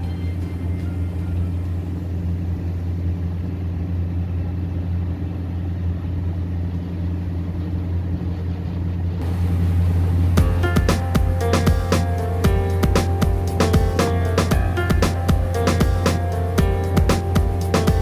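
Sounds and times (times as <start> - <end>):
motorboat engine droning: 0.0 - 18.0.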